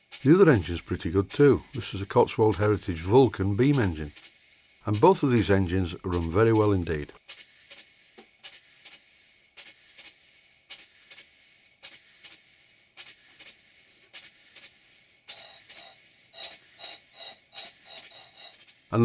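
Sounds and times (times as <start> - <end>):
engine exhaust hissing puffs: 0.0 - 19.0.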